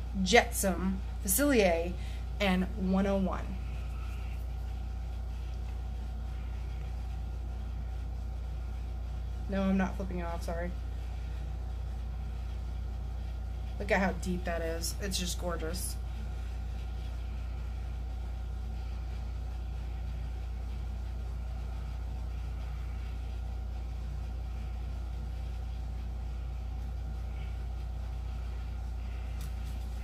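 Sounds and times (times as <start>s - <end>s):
low hum with faint hiss: 0.0s - 30.0s.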